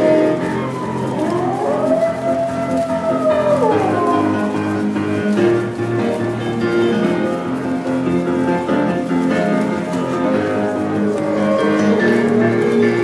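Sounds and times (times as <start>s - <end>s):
instrumental music with held notes: 0.0s - 13.0s.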